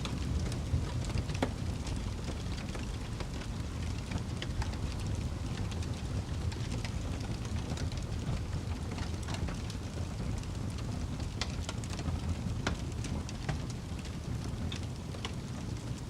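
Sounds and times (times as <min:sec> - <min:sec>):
fire crackling and popping: 0:00.0 - 0:16.0
wood fire burning: 0:00.0 - 0:16.0.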